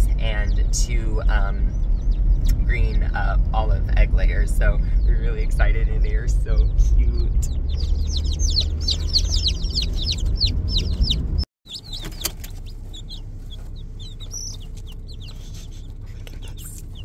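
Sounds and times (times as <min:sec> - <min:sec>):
low rumble: 0:00.0 - 0:17.0
baby chicks peeping: 0:00.2 - 0:03.4, 0:04.2 - 0:17.0.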